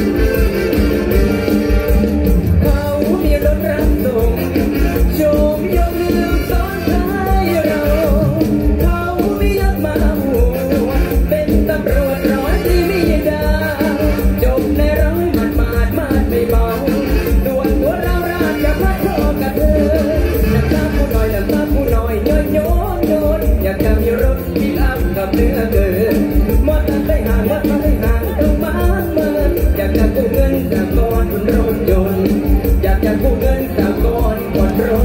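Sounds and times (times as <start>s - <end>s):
driving drum beat: 0.0s - 35.0s
live band music: 0.0s - 35.0s.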